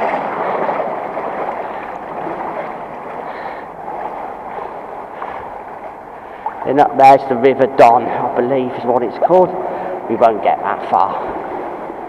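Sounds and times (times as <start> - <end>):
water rushing in a culvert: 0.0 - 12.0.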